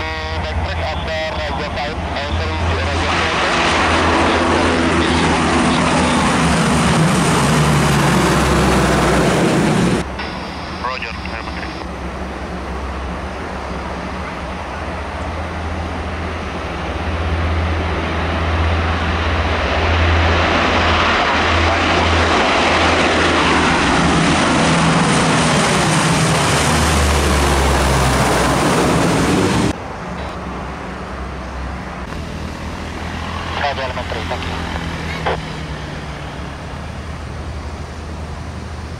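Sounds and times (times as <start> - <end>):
distant turboprop engine noise: 0.0 - 38.9
turboprop aircraft taking off: 0.0 - 38.9.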